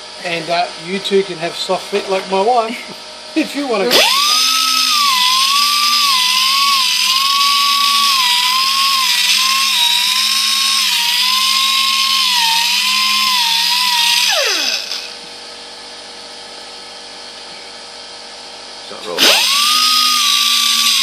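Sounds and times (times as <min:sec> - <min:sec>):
air sander whining: 0:00.0 - 0:15.8, 0:18.8 - 0:21.0.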